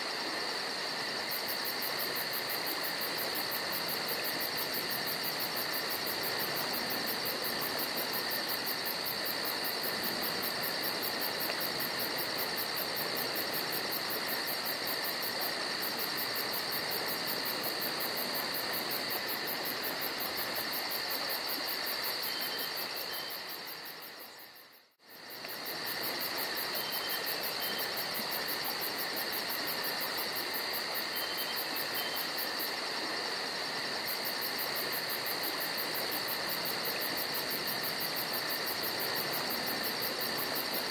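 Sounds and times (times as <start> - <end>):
crickets chirping: 0.0 - 40.9
flowing creek water: 0.0 - 40.9.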